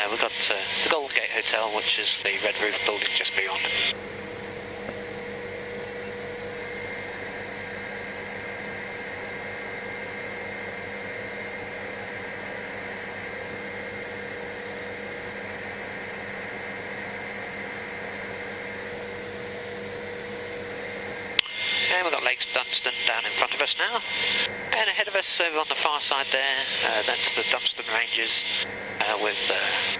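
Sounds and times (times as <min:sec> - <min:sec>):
helicopter cabin hiss and whine: 0:00.0 - 0:29.9.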